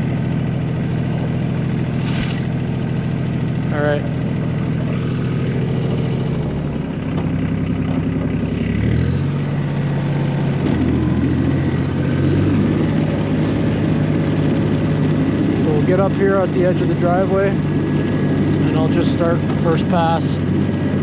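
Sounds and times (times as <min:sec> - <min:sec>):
diesel tractor engine running: 0:00.0 - 0:21.0.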